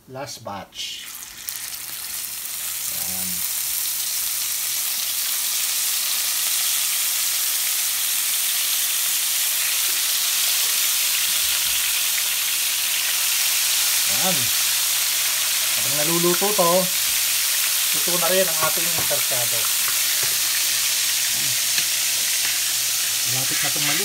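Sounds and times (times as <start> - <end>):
fish sizzling in hot oil: 1.0 - 24.0.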